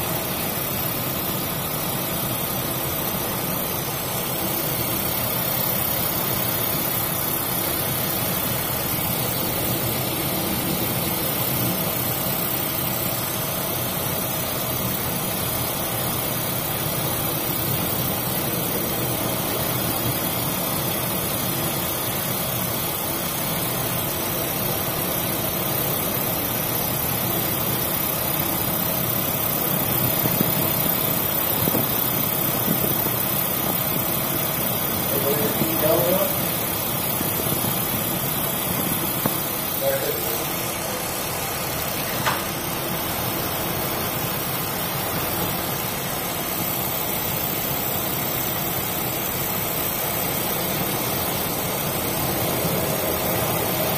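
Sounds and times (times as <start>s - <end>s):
ship engine drone: 0.0s - 53.9s.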